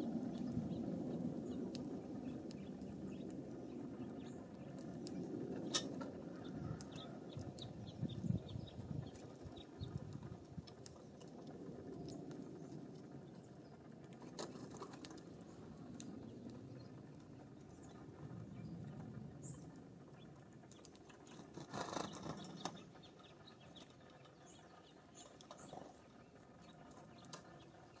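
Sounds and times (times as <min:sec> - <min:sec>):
birds tapping at feeders: 0:00.2 - 0:28.0.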